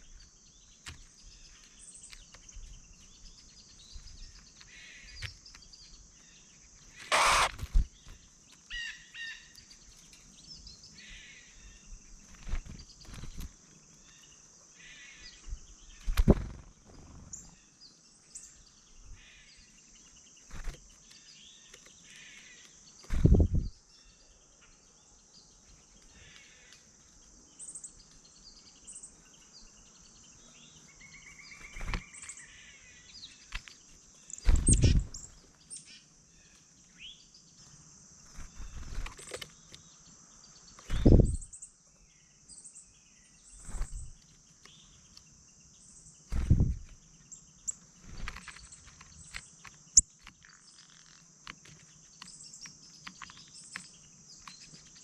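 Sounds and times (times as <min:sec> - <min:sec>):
high insect drone: 0:00.0 - 0:55.0
small birds chirping: 0:00.0 - 0:55.0.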